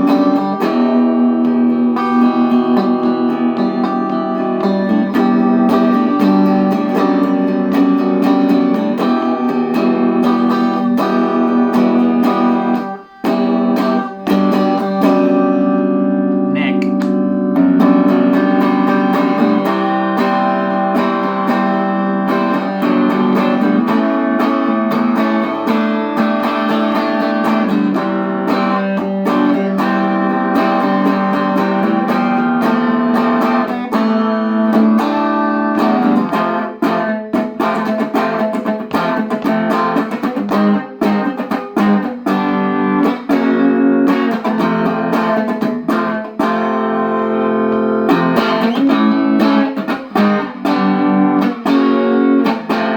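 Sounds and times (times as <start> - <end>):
electric guitar through valve amp: 0.0 - 52.9.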